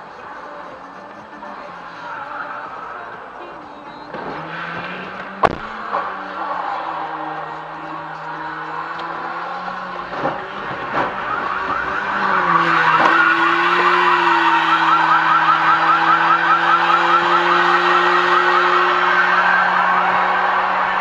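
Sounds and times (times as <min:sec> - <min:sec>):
rapid warbling siren: 0:00.0 - 0:20.8.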